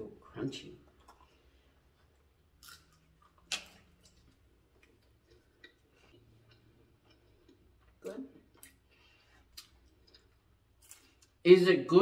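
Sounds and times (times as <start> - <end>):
chewing crackles: 0.9 - 11.4.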